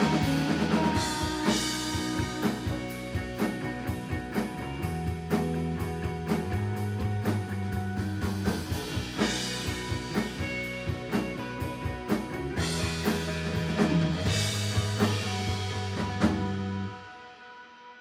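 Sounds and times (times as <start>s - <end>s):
drum kit beat: 0.0s - 17.0s
held bass notes: 0.0s - 17.0s
electric guitar: 0.0s - 18.0s.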